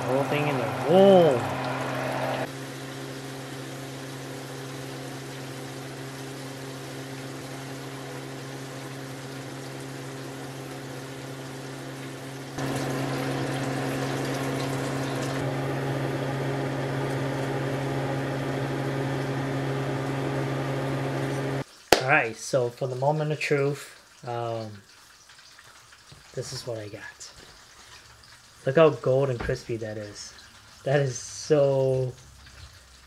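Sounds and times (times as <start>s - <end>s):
fish deep-frying in hot oil: 0.0s - 17.9s, 21.6s - 33.0s.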